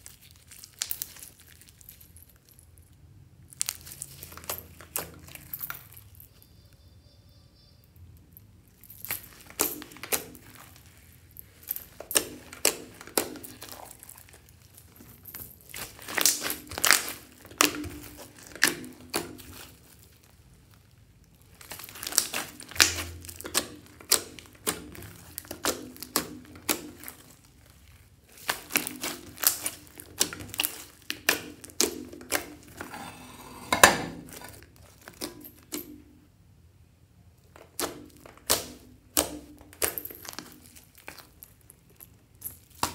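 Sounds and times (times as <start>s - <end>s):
slime squelching and crackling: 0.0s - 6.2s, 8.6s - 35.8s, 37.4s - 42.9s.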